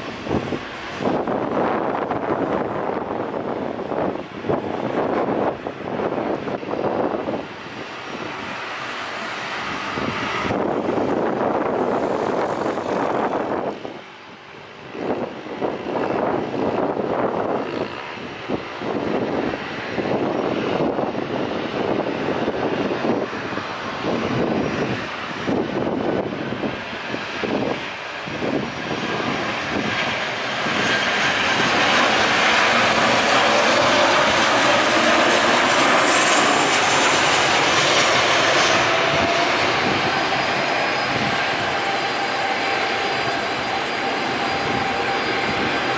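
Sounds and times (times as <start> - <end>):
high jet engine whine: 0.0 - 45.9
jet engines roaring: 0.0 - 45.9.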